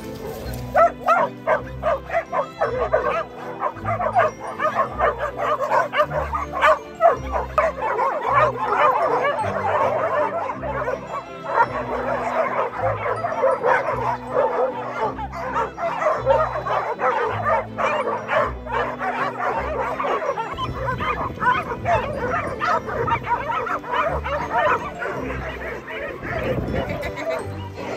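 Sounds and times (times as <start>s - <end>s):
dogs barking and yipping: 0.0s - 27.9s.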